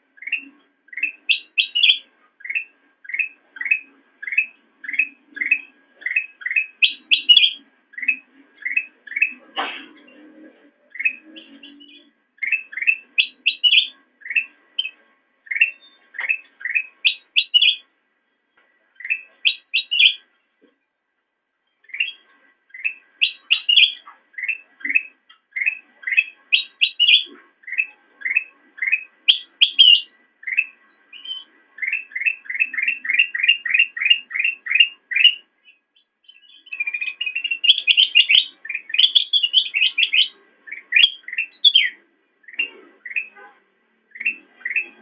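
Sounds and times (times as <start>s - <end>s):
bulbul chirping: 0.1s - 9.8s, 10.9s - 17.9s, 19.0s - 20.3s, 21.8s - 43.5s.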